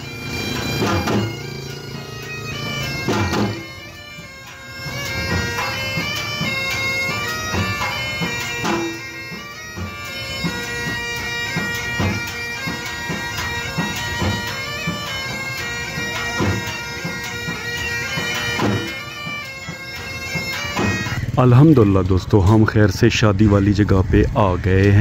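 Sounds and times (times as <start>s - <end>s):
steady drum beat: 0.0s - 22.2s
held drone: 0.0s - 22.7s
reedy wind instrument: 0.0s - 25.0s.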